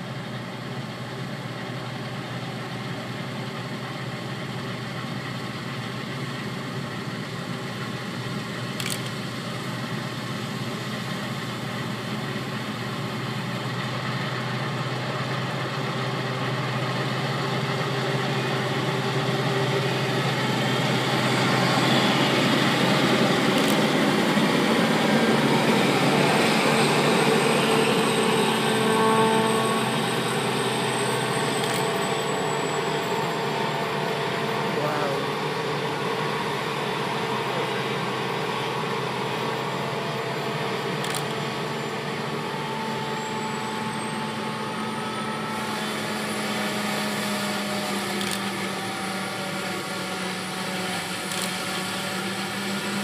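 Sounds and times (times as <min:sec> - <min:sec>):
combine harvester engine drone: 0:00.0 - 0:53.0.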